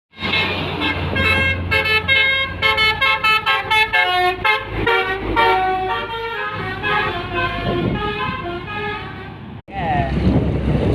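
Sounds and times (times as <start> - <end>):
truck engine hum: 0.1 - 10.9
musical air horn tune: 0.2 - 9.4.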